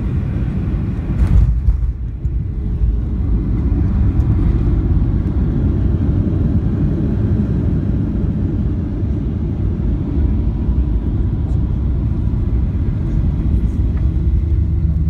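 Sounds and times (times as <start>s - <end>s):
aircraft cabin rumble on runway: 0.0s - 15.0s.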